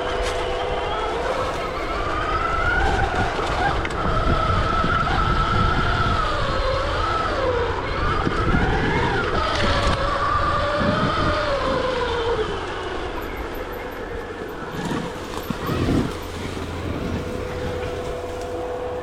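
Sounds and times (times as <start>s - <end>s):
electric motor whining: 0.0s - 19.0s
low ride rumble: 0.0s - 19.0s.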